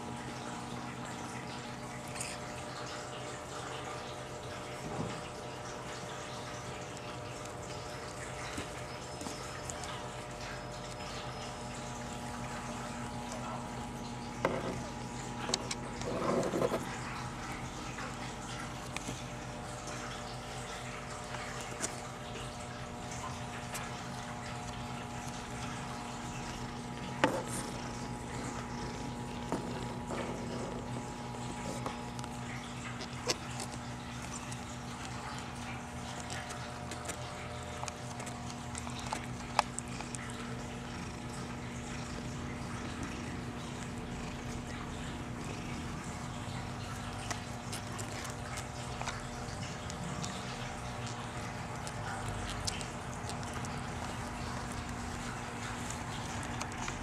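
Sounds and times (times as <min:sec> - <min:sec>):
kittens suckling: 0:06.4 - 0:57.0
kittens scuffling: 0:07.4 - 0:57.0.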